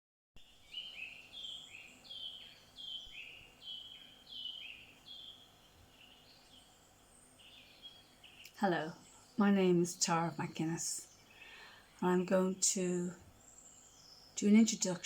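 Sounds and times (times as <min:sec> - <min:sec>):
faint outdoor background: 0:00.4 - 0:15.0.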